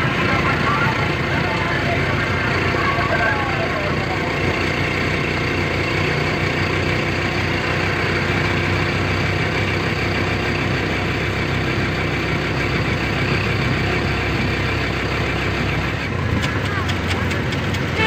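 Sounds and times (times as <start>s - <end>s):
motorcycle engine humming: 0.0s - 18.0s.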